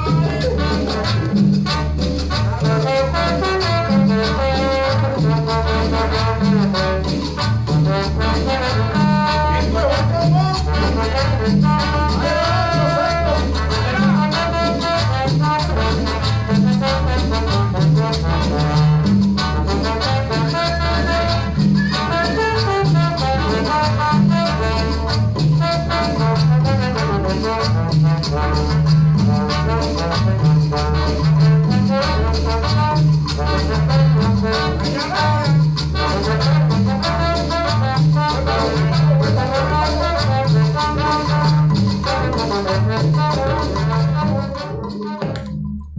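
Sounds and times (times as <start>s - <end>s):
latin dance music with brass: 0.0s - 45.9s.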